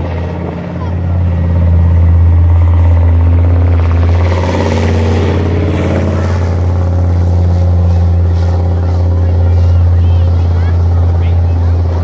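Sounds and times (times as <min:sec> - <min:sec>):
tracked vehicle diesel engine: 0:00.0 - 0:12.0.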